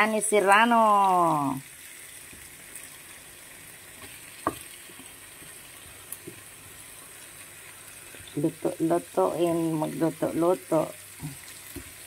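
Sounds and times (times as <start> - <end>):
ham sizzling in a pan: 0.0 - 12.0.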